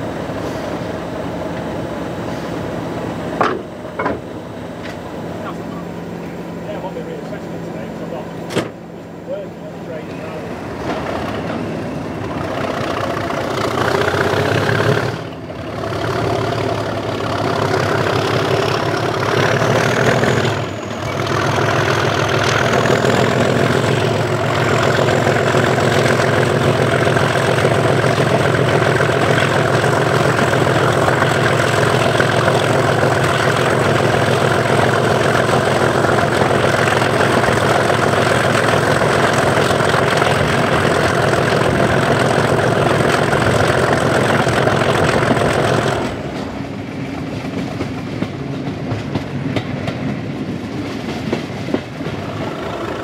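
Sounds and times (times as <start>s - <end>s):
diesel locomotive engine working hard: 0.0s - 53.0s.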